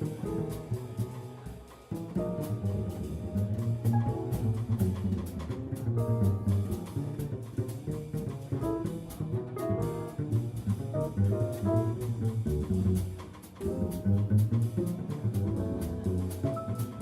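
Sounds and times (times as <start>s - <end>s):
double bass: 0.0s - 17.0s
drum kit with cymbals: 0.0s - 17.0s.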